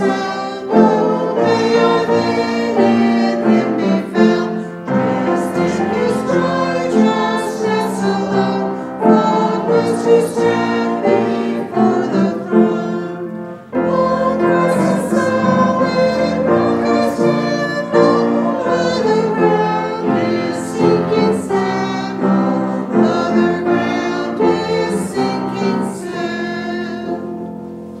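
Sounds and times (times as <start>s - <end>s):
choir singing sustained chords: 0.0s - 28.0s.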